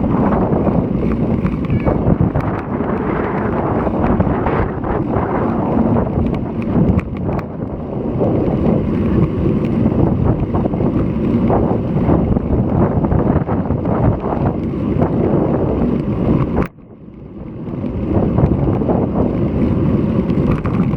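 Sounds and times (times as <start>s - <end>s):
gusty wind buffeting microphone: 0.0s - 20.9s.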